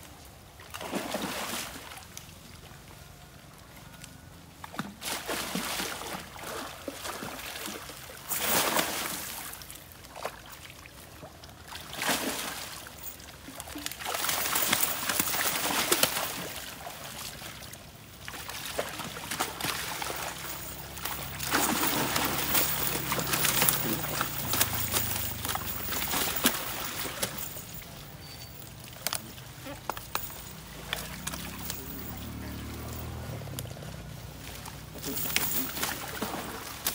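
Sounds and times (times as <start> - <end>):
water splashing and sloshing: 0.1 - 36.9.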